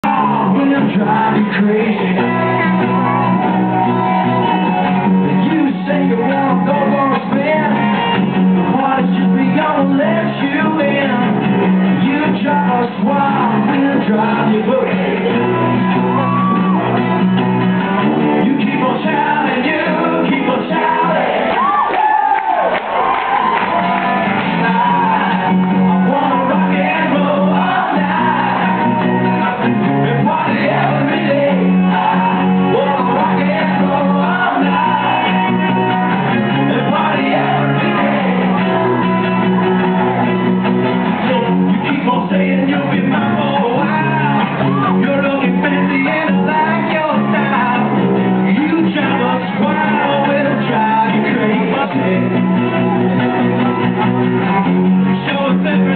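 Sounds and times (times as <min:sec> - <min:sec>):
audience shouting and whooping: 0:00.0 - 0:08.4, 0:13.4 - 0:18.4, 0:20.4 - 0:50.8, 0:52.6 - 0:55.9
person singing: 0:00.0 - 0:21.9, 0:23.4 - 0:55.9
live rock band with acoustic guitars: 0:00.0 - 0:55.9.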